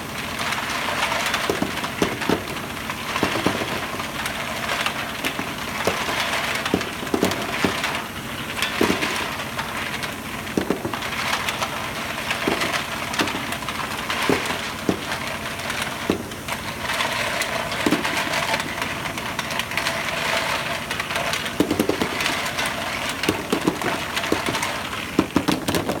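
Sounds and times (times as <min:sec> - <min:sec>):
plastic parts rattling in feeder drum: 0:00.0 - 0:26.0.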